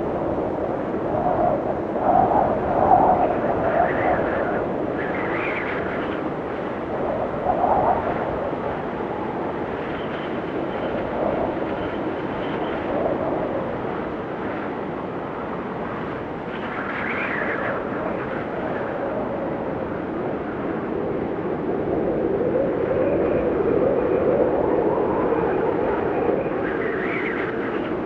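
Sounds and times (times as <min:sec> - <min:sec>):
blizzard wind gusting: 0:00.0 - 0:28.0.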